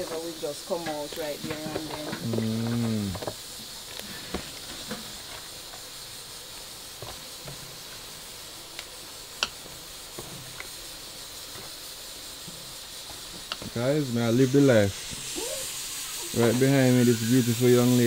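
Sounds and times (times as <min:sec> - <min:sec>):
water heating with hiss: 0:00.0 - 0:18.0.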